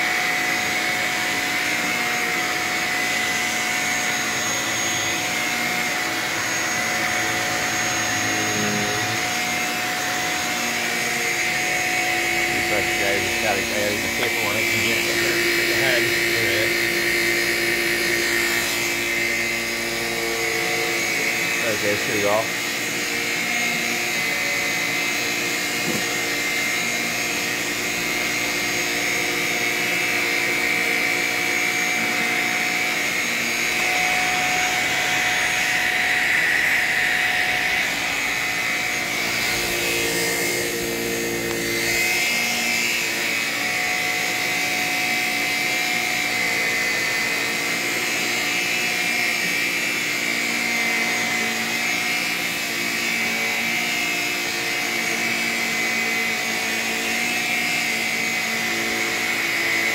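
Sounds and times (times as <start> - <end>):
stick vacuum running on carpet: 0.0 - 59.9.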